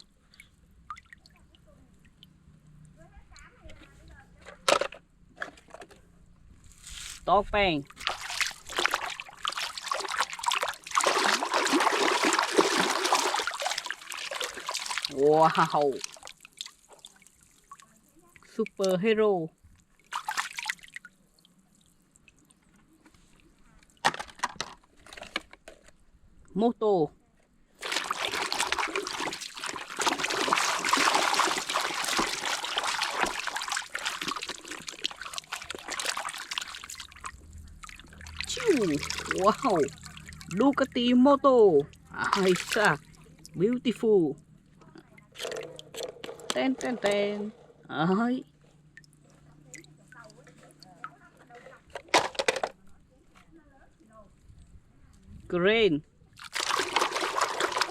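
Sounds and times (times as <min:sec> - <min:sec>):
water splashing and trickling: 0:00.0 - 0:04.0, 0:06.0 - 0:25.8, 0:27.7 - 0:52.8, 0:54.3 - 0:57.9.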